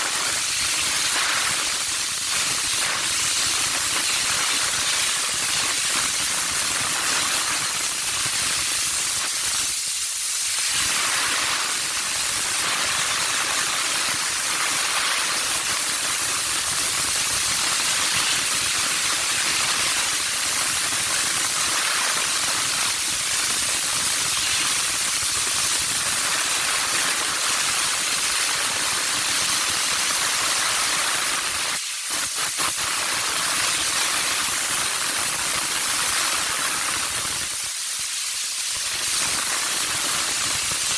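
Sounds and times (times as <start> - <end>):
steam jet hissing: 0.0 - 40.9.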